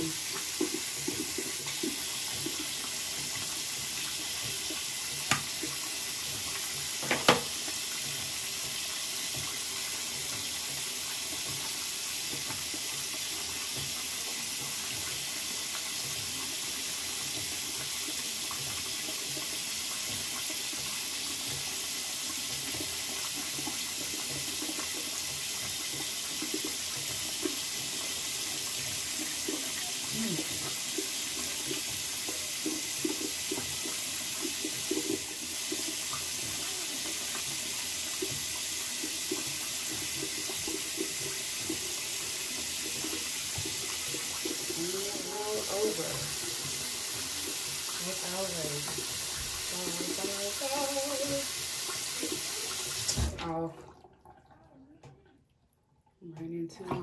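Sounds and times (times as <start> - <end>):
tap running into sink: 0.0 - 53.6, 56.8 - 57.0.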